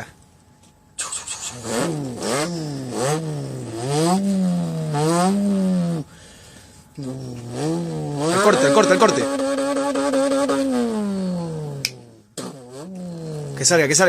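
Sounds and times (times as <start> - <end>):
man imitating car engine revving: 1.0 - 6.1, 7.0 - 14.0.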